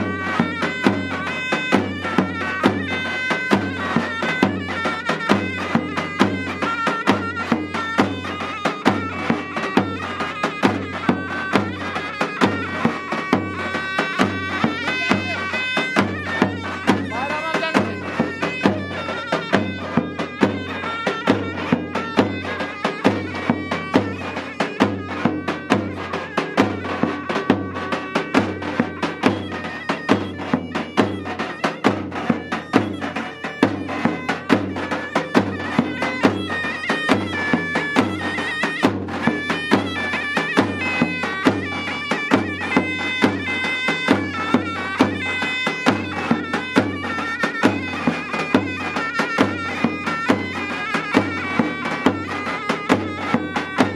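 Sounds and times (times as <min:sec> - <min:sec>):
bass drum beaten with mallet: 0:00.0 - 0:53.9
shawm melody: 0:00.0 - 0:53.9.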